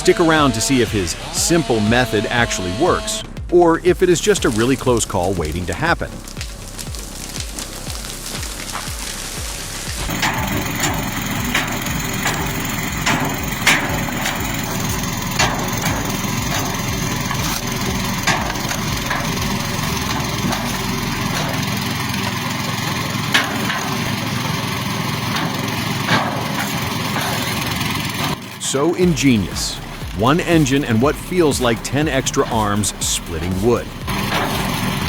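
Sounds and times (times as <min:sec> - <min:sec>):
log splitter engine running: 0:00.0 - 0:35.0
wood cracking and snapping: 0:04.5 - 0:35.0.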